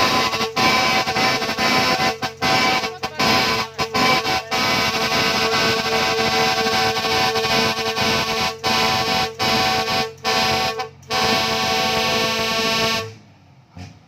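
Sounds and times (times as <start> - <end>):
truck air horn blasts: 0.0 - 13.3.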